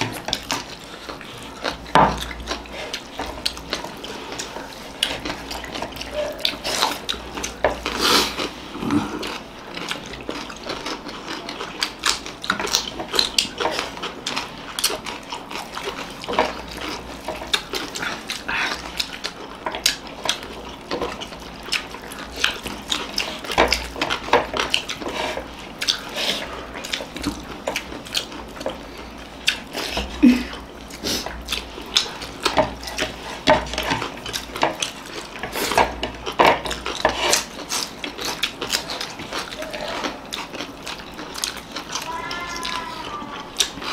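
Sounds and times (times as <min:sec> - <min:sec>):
chewing and mouth smacks: 0:00.0 - 0:43.9.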